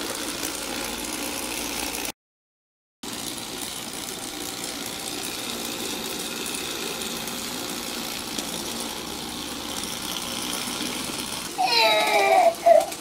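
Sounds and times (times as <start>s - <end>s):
small motor and gears whirring: 0.0s - 2.2s, 3.0s - 13.0s.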